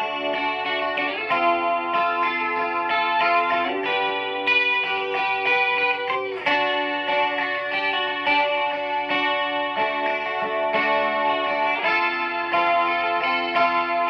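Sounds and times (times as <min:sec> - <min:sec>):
electric guitar chords with reverb: 0:00.0 - 0:14.0.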